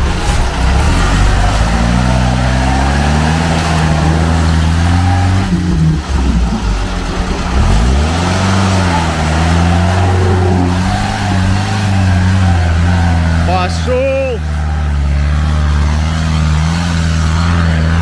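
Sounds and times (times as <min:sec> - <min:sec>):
engine revving hard: 0:00.0 - 0:18.0.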